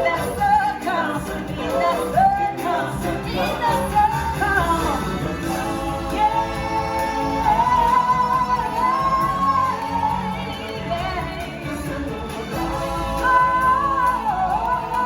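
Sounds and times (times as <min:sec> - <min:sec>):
person singing with full band: 0:00.0 - 0:15.0.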